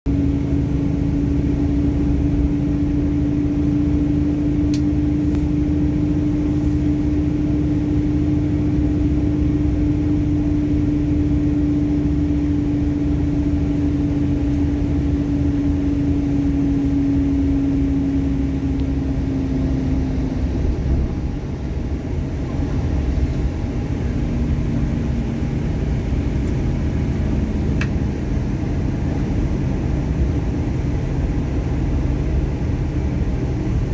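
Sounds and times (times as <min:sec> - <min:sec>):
heavy machinery rumble: 0:00.1 - 0:33.9
lower hum: 0:00.1 - 0:33.9.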